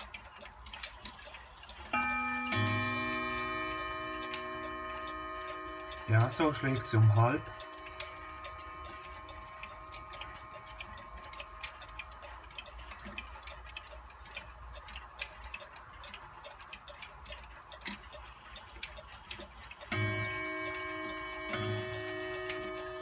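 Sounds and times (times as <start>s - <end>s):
clock hand clicks: 0.0s - 23.0s
clock striking tones: 0.0s - 23.0s
wall clock ticking: 0.0s - 23.0s.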